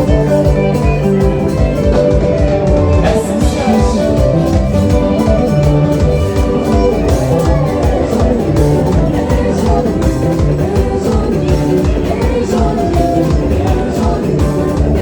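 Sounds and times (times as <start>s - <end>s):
guitar: 0.0s - 15.0s
live band playing dance music: 0.0s - 15.0s.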